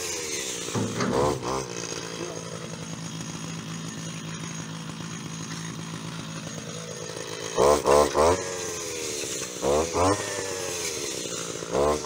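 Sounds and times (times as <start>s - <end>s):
brush cutter engine cutting grass: 0.0s - 12.0s.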